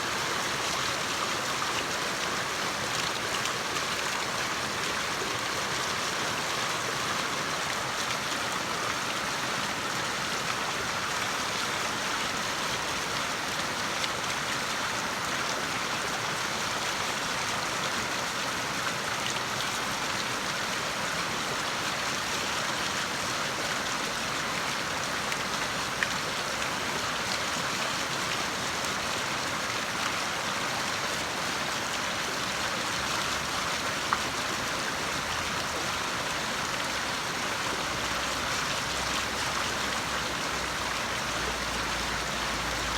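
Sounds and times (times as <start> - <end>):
water rushing at a water wheel: 0.0 - 42.9.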